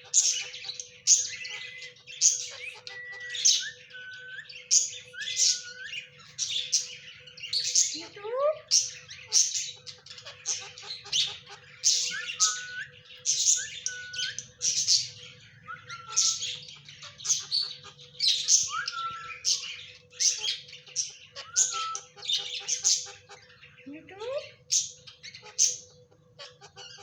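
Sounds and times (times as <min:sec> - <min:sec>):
parrot screeching calls: 0:00.0 - 0:27.0.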